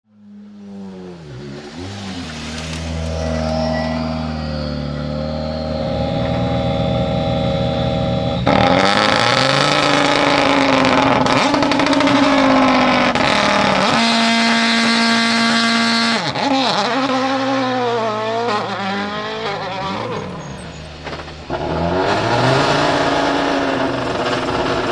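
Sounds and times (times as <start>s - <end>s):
rally car engine revving: 0.1s - 24.9s.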